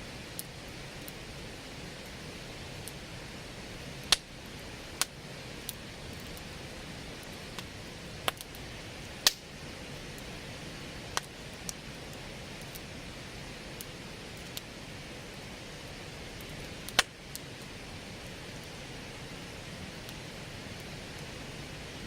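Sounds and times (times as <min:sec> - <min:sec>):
campfire logs crackling and popping: 0:00.2 - 0:22.0.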